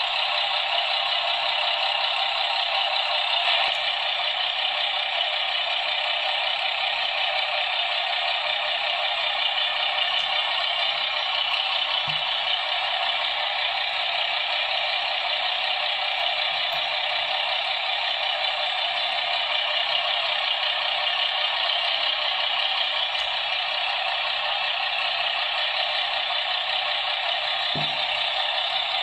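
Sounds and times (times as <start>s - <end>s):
truck engine from small speaker: 0.0s - 29.0s.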